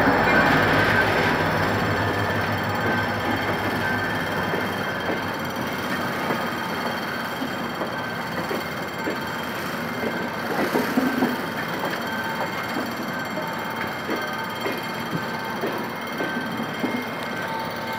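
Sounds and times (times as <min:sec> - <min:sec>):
steel wheels rumbling on rails: 0:00.0 - 0:17.9.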